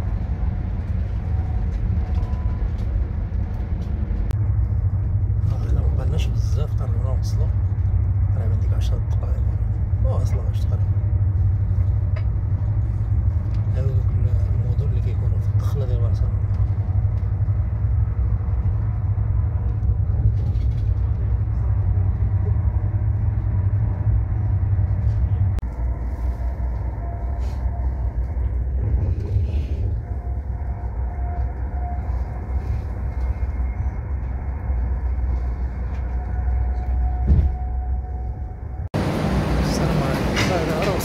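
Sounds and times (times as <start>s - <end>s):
train rumbling inside carriage: 0.0s - 41.0s.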